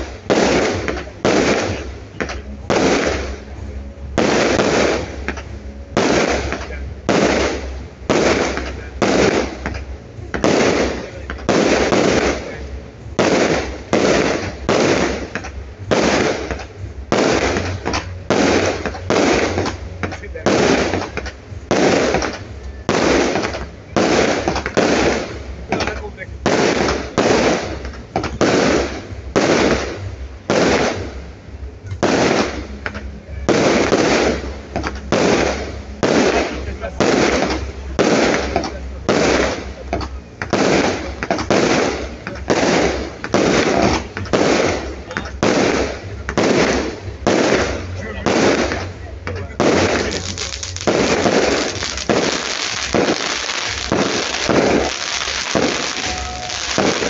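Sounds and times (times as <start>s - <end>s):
firework crackles: 0.0s - 57.0s
firework shells booming: 0.0s - 57.0s.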